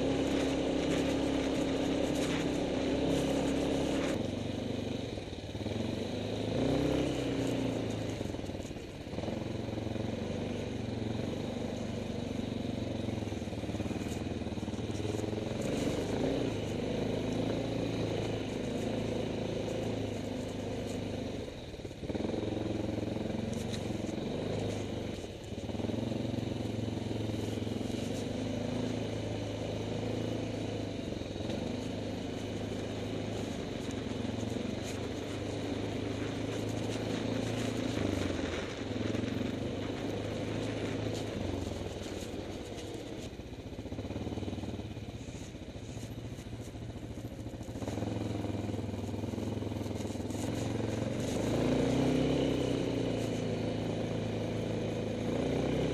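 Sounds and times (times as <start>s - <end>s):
atv engine running: 0.0s - 55.9s.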